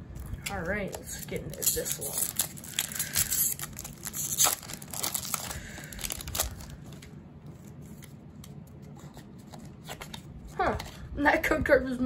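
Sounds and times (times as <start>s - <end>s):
foil wrapper crinkling and tearing: 0.2s - 10.3s.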